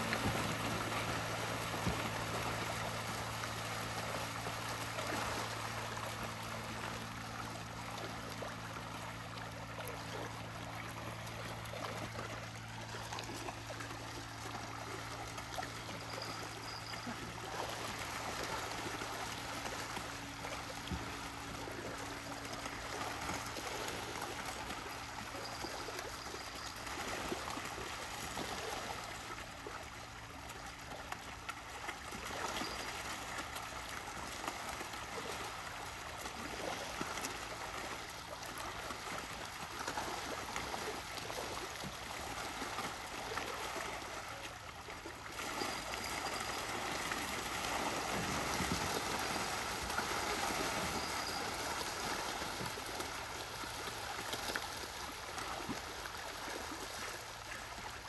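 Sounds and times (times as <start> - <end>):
water trickling and gurgling: 0.0 - 58.0.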